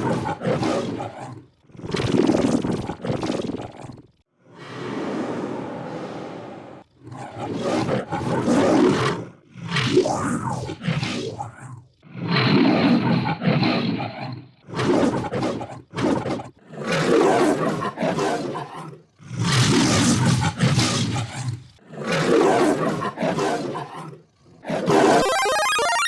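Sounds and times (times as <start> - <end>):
digitally altered lion roar: 0.0 - 25.5.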